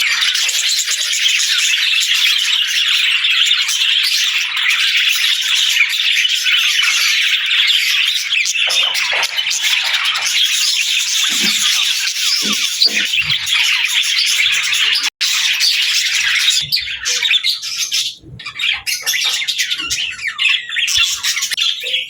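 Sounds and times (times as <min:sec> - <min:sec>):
budgerigars chattering and chirping: 0:00.0 - 0:22.0.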